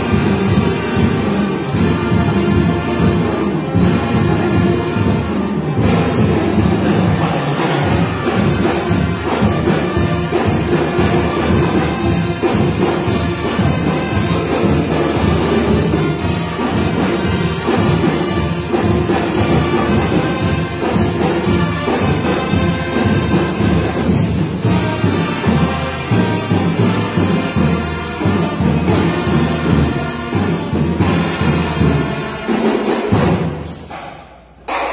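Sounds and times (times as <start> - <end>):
marching band playing: 0.0 - 34.9
steady drum beat: 0.0 - 34.9.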